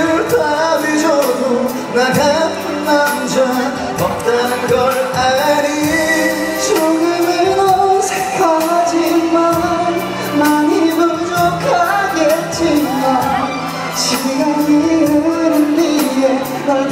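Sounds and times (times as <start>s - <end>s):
backing track: 0.0s - 16.9s
person singing pop song: 0.0s - 16.9s.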